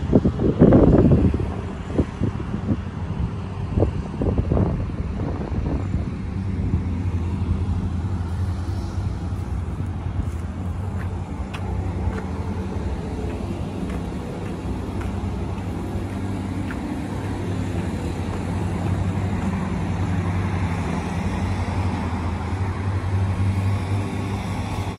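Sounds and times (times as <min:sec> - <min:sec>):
road traffic passing: 0:00.0 - 0:24.9.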